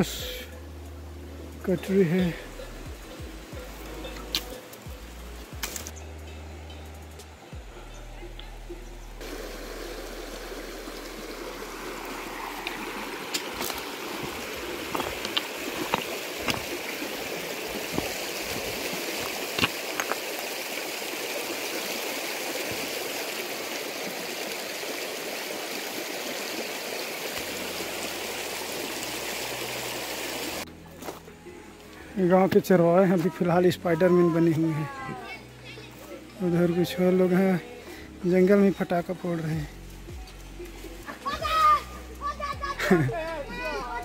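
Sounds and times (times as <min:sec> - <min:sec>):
stream water rushing: 0:00.0 - 0:07.7, 0:09.1 - 0:44.0.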